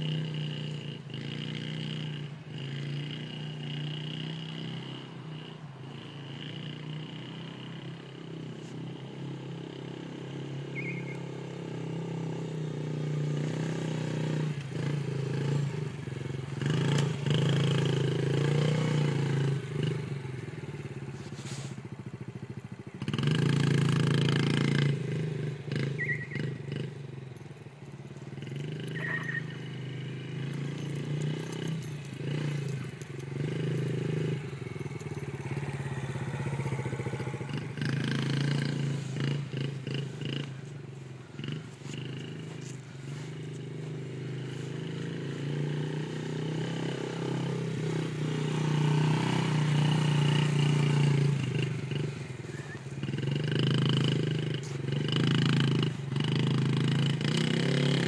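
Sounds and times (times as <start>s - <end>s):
small dirt bike engine running: 0.0s - 58.0s.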